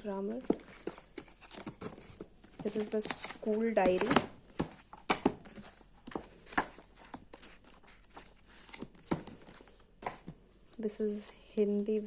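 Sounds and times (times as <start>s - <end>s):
books and packaging being handled: 0.0s - 12.0s
packaging rustling: 0.3s - 10.3s.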